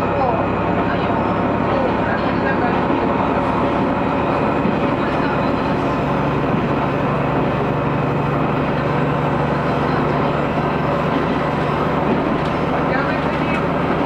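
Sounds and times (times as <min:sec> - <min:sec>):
diesel railcar engine drone: 0:00.0 - 0:14.0
wheel and rail noise: 0:00.0 - 0:14.0.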